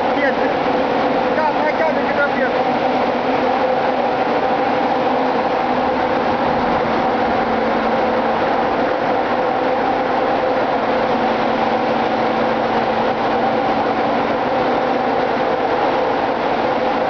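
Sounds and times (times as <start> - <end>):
constant humming tones: 0.0 - 17.0
engine-room machinery din: 0.0 - 17.0.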